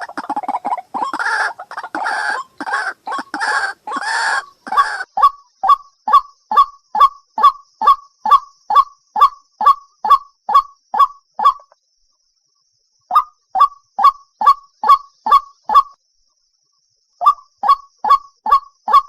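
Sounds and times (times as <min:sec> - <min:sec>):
waterhen croaking and calling: 0:00.0 - 0:11.7, 0:13.1 - 0:15.9, 0:17.2 - 0:19.0.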